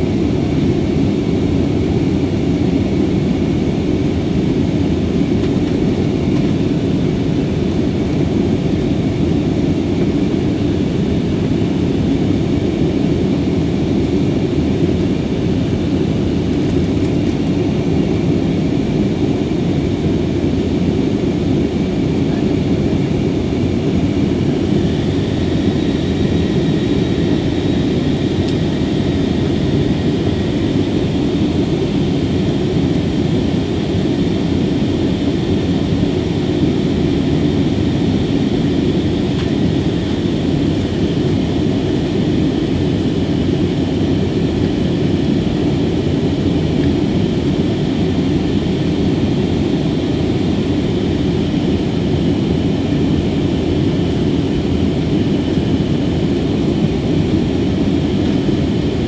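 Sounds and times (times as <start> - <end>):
airplane cabin engine roar: 0.0 - 59.0.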